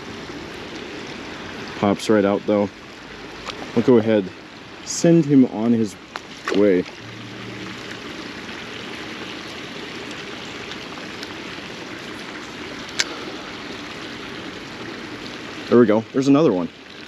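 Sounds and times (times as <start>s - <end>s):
shallow stream running: 0.0s - 17.0s.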